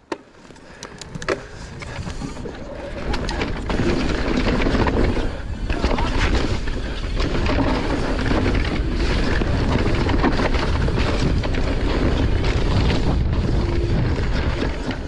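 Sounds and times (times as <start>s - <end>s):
bike parts rattling: 0.4s - 15.0s
tyres rumbling over dirt: 0.6s - 15.0s
wind buffeting microphone: 1.0s - 15.0s.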